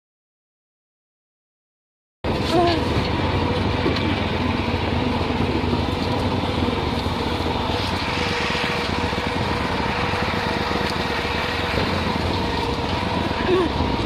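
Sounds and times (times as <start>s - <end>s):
small engine running: 2.3s - 14.0s.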